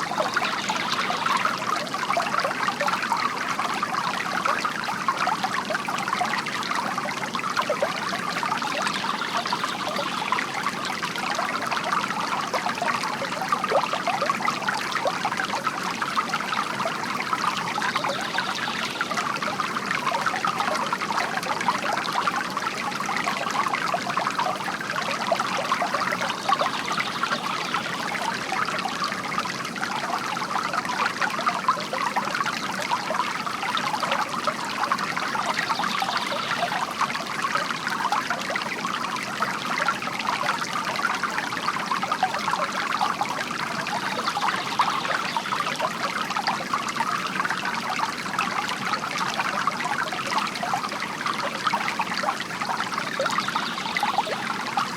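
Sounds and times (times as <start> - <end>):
fountain water trickling into basin: 0.0 - 54.9.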